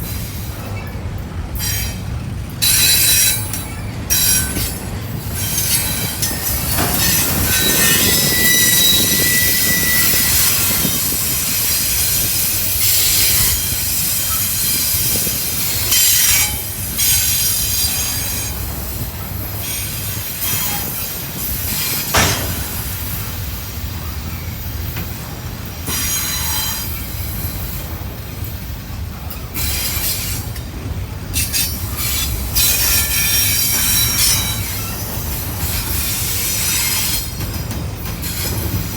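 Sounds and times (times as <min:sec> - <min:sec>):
steel wheels squealing: 0:00.0 - 0:28.4, 0:31.3 - 0:38.9
freight train cars rolling: 0:00.0 - 0:38.9
train cars clanking: 0:00.0 - 0:38.9.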